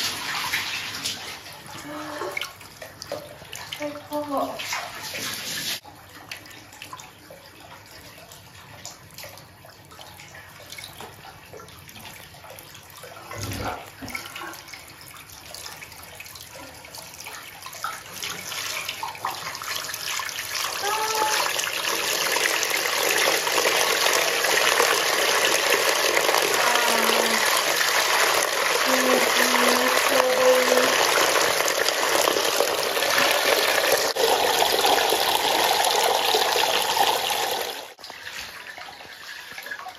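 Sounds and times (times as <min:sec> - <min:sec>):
water splashing and lapping: 0:00.0 - 0:39.9.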